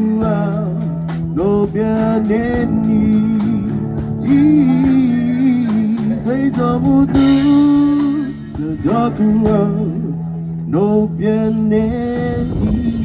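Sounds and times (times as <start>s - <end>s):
guitar accompaniment: 0.0s - 13.0s
person singing: 0.0s - 13.0s.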